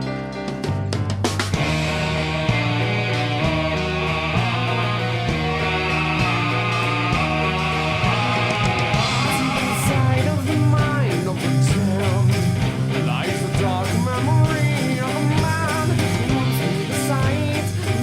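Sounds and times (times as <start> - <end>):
rock music: 0.0 - 18.0.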